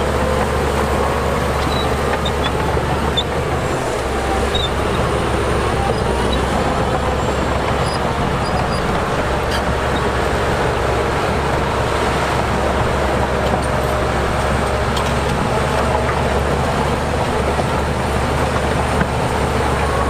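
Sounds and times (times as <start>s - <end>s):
heavy diesel engine droning: 0.0s - 20.0s.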